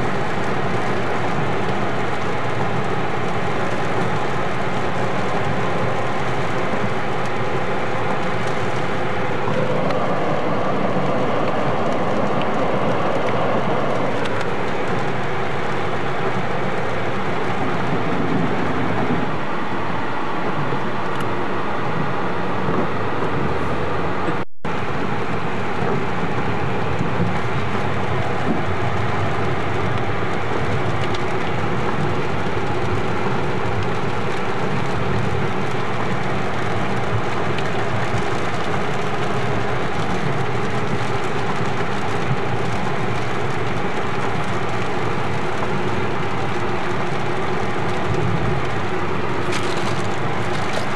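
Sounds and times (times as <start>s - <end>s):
car engine and road rumble: 0.0s - 50.9s
tyres hissing on wet road: 0.0s - 50.9s.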